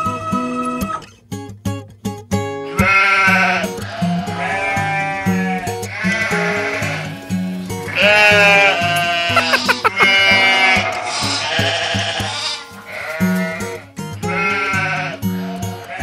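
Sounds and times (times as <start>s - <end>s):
sheep bleating: 0.0s - 1.1s, 2.6s - 16.0s.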